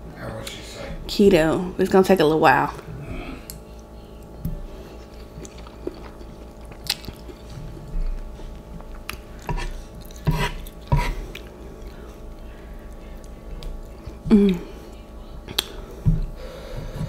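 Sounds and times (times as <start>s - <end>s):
person chewing noodles: 2.9s - 17.0s.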